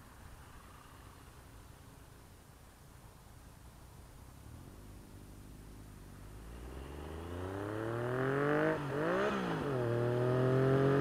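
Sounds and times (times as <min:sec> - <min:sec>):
distant motorcycle engine: 0:00.0 - 0:02.4, 0:04.3 - 0:11.0.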